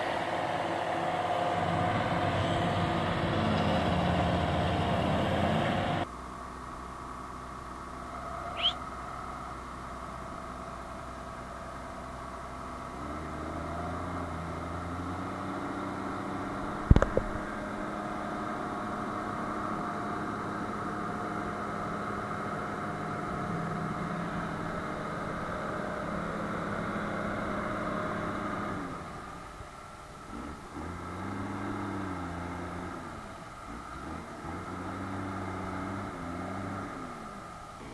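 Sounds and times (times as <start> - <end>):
diesel tractor engines working: 0.0 - 37.9.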